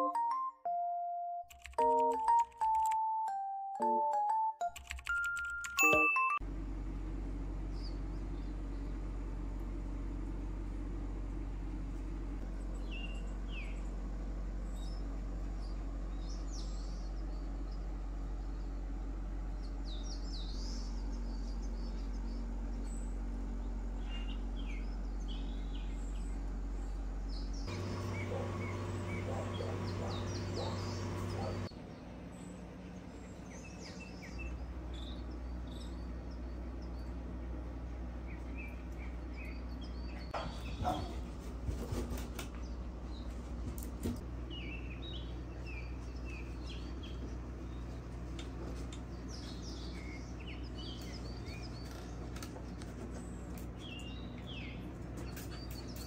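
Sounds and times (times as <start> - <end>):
steady low hum: 6.4 - 56.0
small birds chirping: 7.2 - 56.0.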